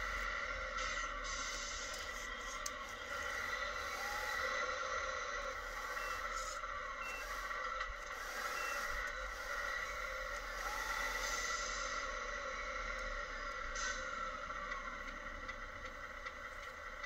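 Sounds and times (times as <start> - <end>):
simulated diesel engine sound: 0.0 - 17.0.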